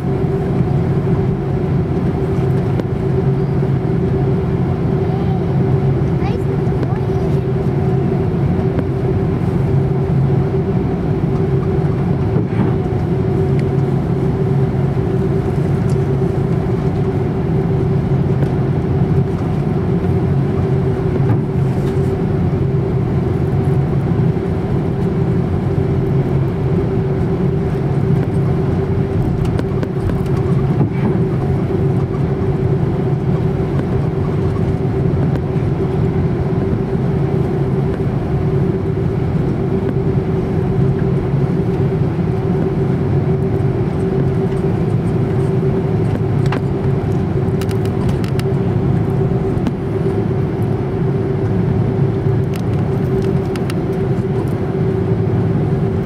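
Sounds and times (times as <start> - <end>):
jet engines droning in cabin: 0.0 - 56.0.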